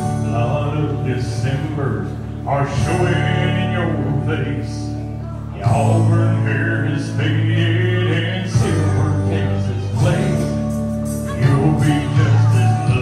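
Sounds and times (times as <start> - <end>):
backing track through speaker: 0.0 - 13.0
man singing into a microphone: 0.0 - 13.0.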